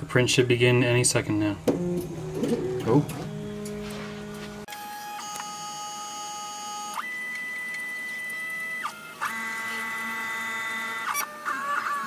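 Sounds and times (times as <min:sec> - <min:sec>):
stepper motors whining: 0:01.6 - 0:12.0.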